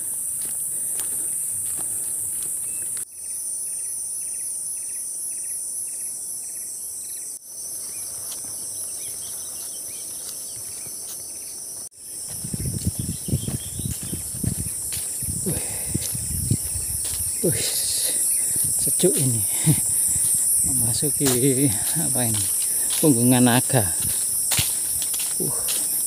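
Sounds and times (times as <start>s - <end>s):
footsteps on dirt trail: 0.0s - 3.1s, 7.5s - 26.0s
insect chorus: 0.0s - 26.0s.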